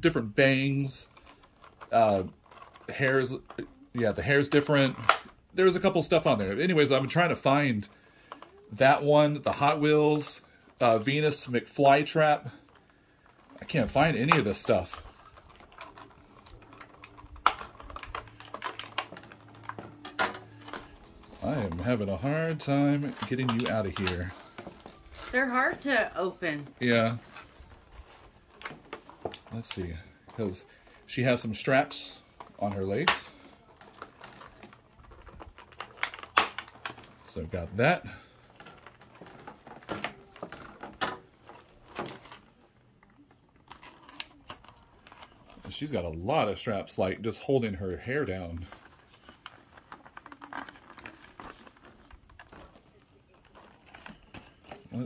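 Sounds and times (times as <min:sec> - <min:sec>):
plastic packaging clicks and crackles: 0:00.1 - 0:55.0.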